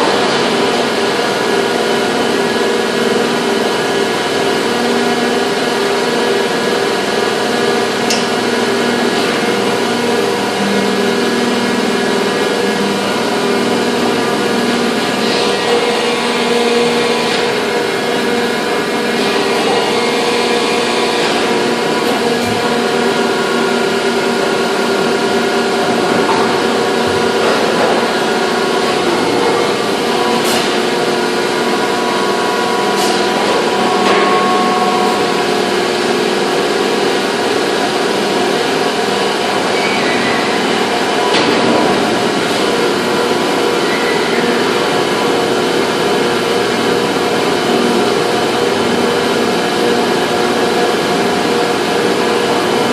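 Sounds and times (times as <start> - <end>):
factory machinery humming: 0.0 - 52.9.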